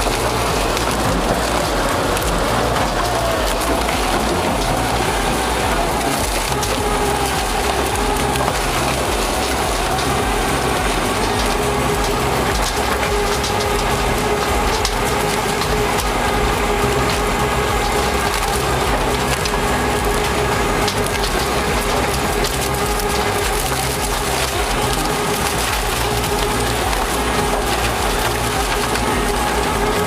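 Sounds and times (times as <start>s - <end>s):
shredder machine hum: 0.0s - 30.0s
wood splintering cracks: 0.0s - 30.0s.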